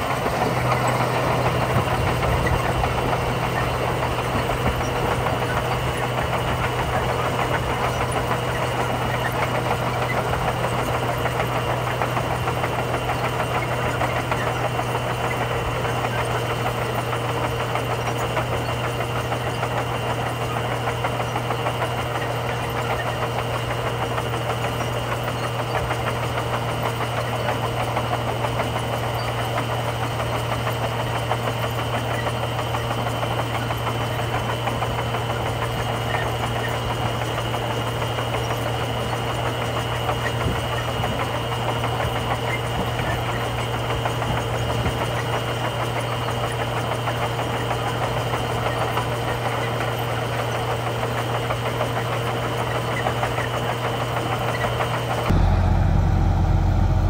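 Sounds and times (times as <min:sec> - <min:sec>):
bulldozer diesel engine: 0:00.0 - 0:57.0.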